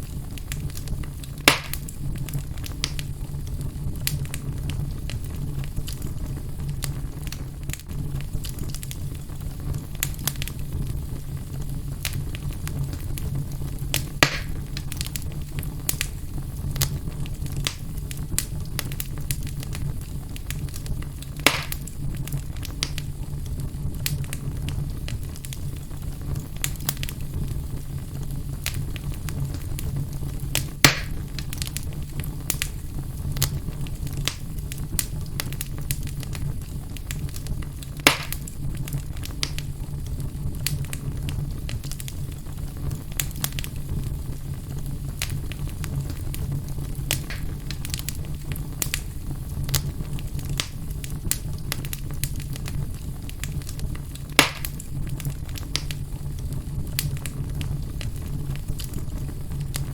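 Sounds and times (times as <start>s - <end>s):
fire crackling: 0.0s - 59.9s
fire popping: 0.0s - 59.9s.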